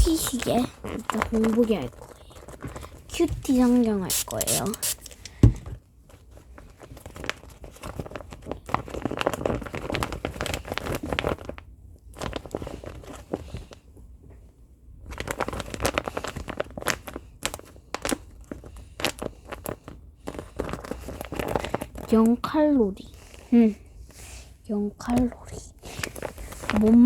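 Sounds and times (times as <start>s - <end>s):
crinkly material crackling: 0.0s - 5.4s, 6.0s - 14.0s, 15.0s - 23.8s, 24.7s - 27.0s.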